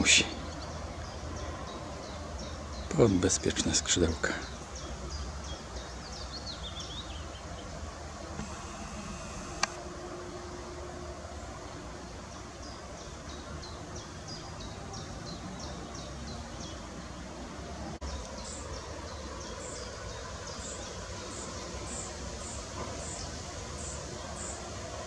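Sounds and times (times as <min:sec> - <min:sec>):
small birds peeping: 0:00.0 - 0:09.8, 0:11.6 - 0:17.3, 0:18.0 - 0:25.0
steady background hiss: 0:00.0 - 0:25.0.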